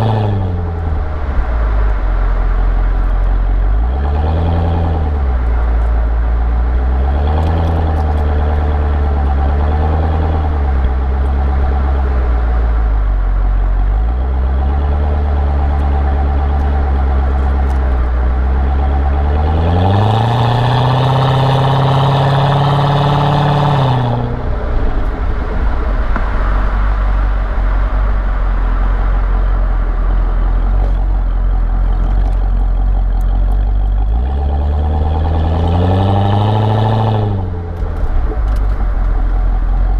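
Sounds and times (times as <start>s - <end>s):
car exhaust rumbling and revving: 0.0s - 39.9s.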